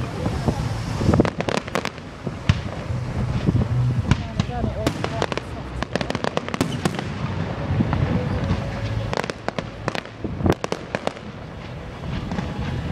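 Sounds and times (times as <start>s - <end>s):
fireworks bangs and crackling: 0.0s - 12.9s
low rumble: 0.0s - 12.9s.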